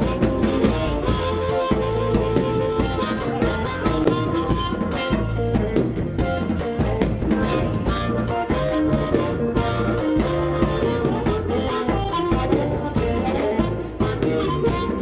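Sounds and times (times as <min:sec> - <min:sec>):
drums steady beat: 0:00.0 - 0:15.0
electric guitar: 0:00.0 - 0:15.0
rock and roll band playing: 0:00.0 - 0:15.0.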